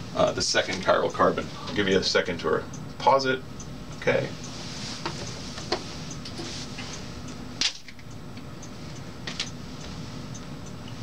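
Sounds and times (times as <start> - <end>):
steady room hum: 0.0 - 11.0.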